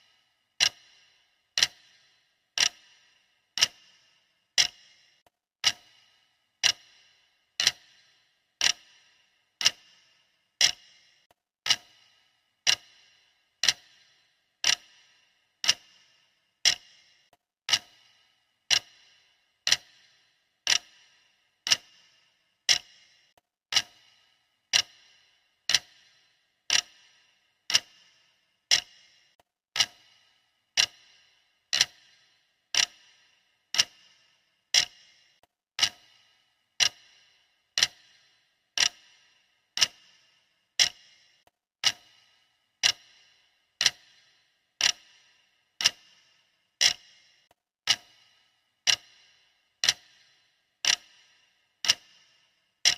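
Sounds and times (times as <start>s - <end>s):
clock ticking: 0.0s - 52.9s.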